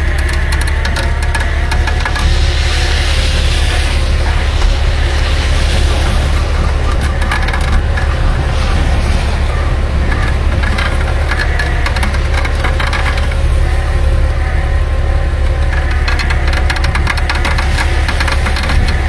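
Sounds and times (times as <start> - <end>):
crackling crunching noise: 0.0 - 19.0
truck engine running: 0.0 - 19.0.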